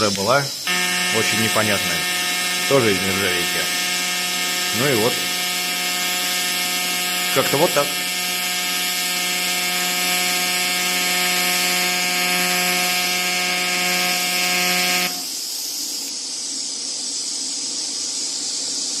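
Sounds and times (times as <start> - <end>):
high hiss: 0.0 - 19.0
mechanical hum: 0.0 - 19.0.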